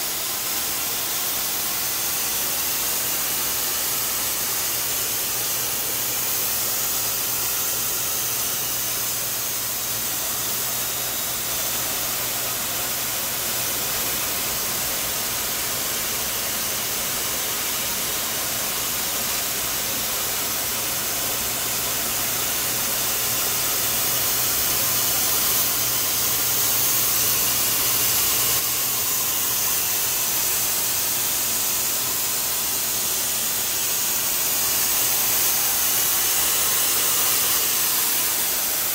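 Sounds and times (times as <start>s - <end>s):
rolls spinning yarn hiss: 0.0s - 38.9s.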